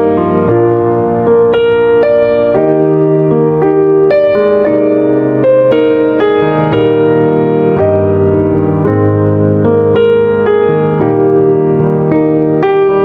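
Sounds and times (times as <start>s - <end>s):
slow piano-like keyboard melody: 0.0s - 13.0s.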